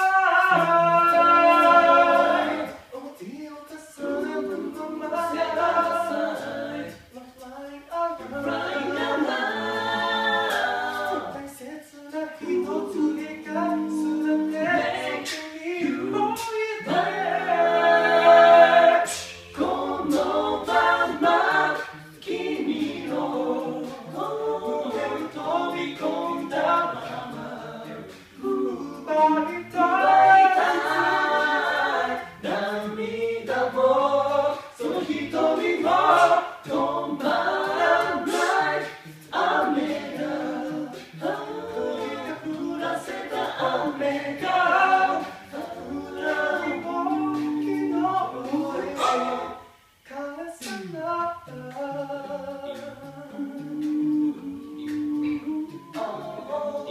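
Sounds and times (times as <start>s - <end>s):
group singing in harmony: 0.0s - 56.9s
vocal percussive clicks: 0.0s - 56.9s.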